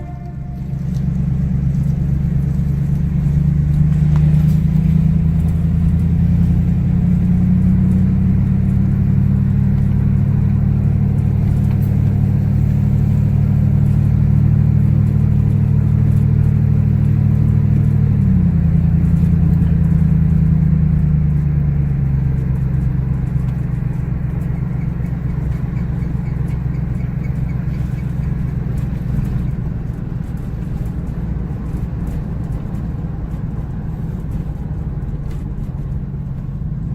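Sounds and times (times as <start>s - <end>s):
car engine running: 0.0s - 36.9s
road noise: 0.0s - 36.9s.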